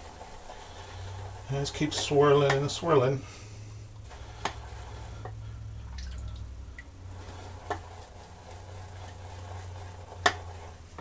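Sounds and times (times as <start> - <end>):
shaving brush stirring wet lather: 0.0 - 3.2, 4.0 - 11.0
low steady hum: 0.0 - 11.0.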